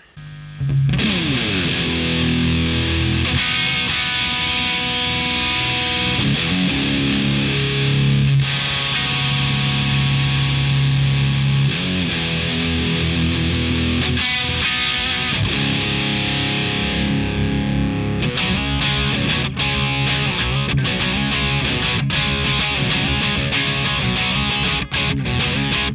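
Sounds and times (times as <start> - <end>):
distorted electric guitar chords: 0.0 - 25.9.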